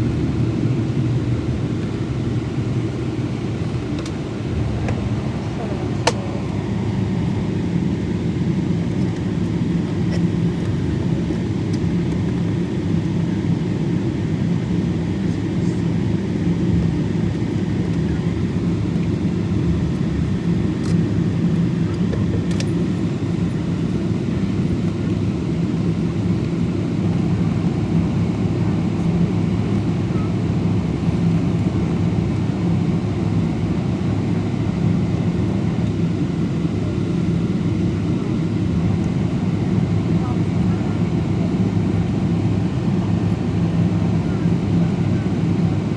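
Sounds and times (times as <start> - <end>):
airliner cabin drone: 0.0 - 45.9.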